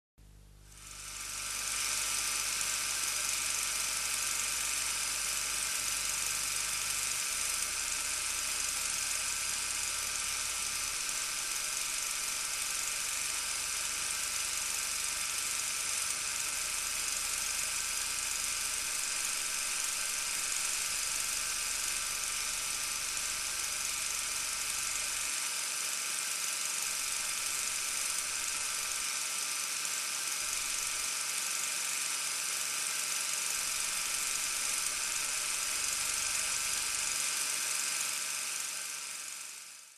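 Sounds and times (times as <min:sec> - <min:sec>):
film projector whirring: 0:00.6 - 0:39.9.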